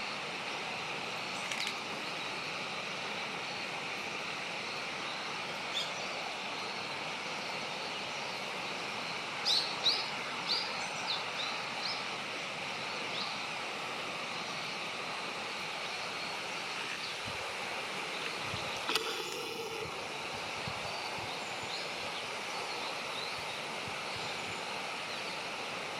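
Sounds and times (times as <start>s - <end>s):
outdoor background hiss: 0.0s - 25.9s.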